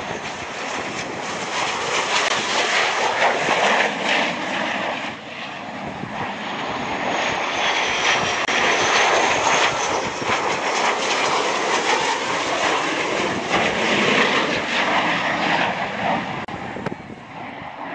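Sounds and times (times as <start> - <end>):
jet engine roar: 0.0 - 17.9.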